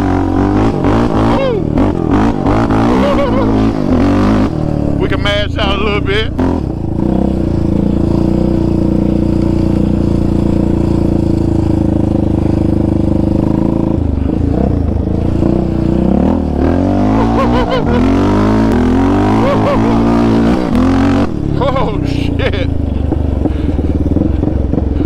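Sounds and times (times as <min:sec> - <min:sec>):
quad engine revving: 0:00.0 - 0:25.0.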